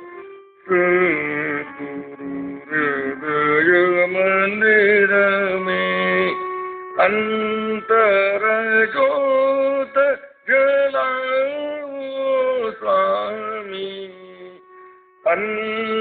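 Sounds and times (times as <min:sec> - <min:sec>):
man singing devotional song: 0:00.6 - 0:16.0.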